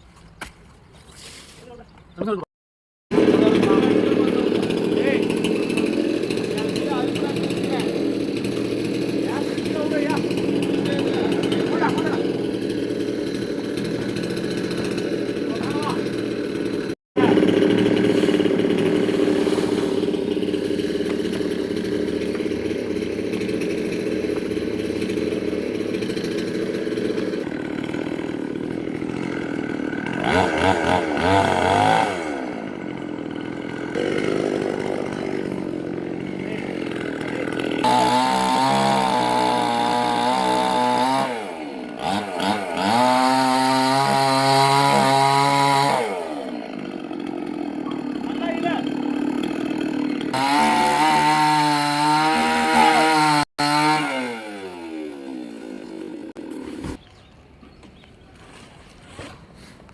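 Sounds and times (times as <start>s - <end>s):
chainsaw running and revving: 3.1s - 57.0s.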